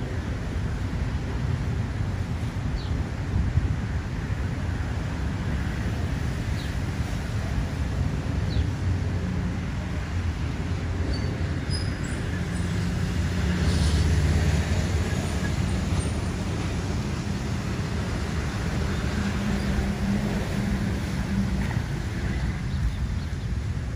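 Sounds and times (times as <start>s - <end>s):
low rumble of road traffic: 0.0s - 23.9s.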